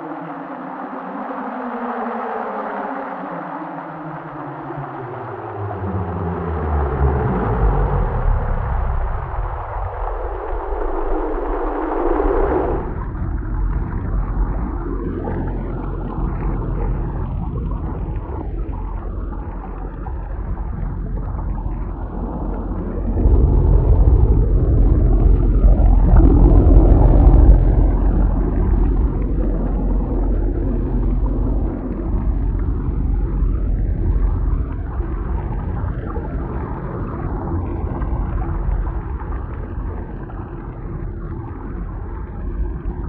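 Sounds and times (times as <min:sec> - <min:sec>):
rolling thunder rumble: 0:05.7 - 0:43.0.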